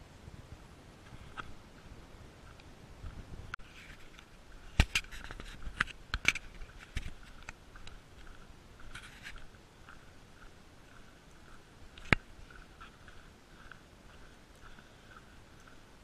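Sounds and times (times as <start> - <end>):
footsteps crunching on dirt trail: 1.1 - 16.0.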